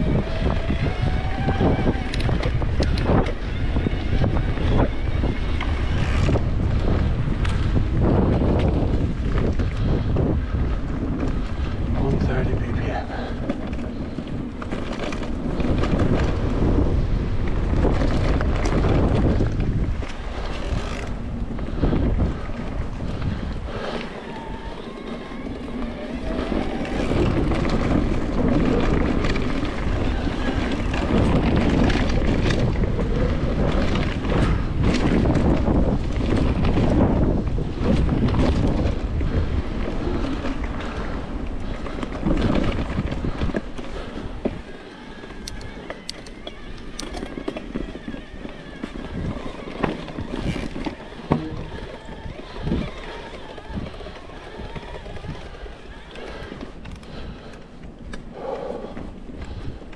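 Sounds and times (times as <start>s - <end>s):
bike clicks and rattles: 0.0s - 59.9s
wind buffeting microphone: 0.0s - 59.9s.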